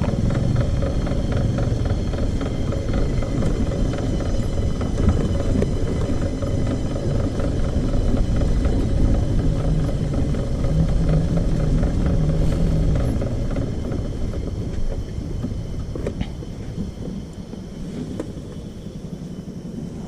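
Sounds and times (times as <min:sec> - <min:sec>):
motor scooter engine drone: 0:00.0 - 0:20.0.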